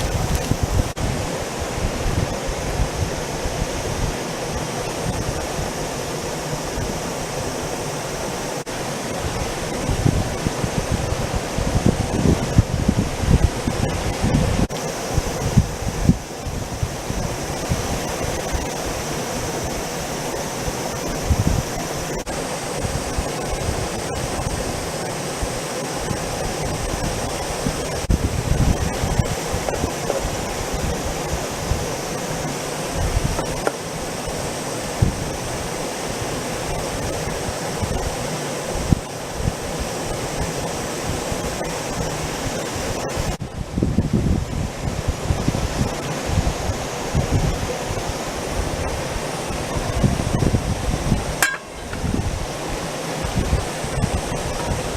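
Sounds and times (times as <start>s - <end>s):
mountain stream rushing: 0.0s - 54.9s
wind buffeting microphone: 0.0s - 54.9s.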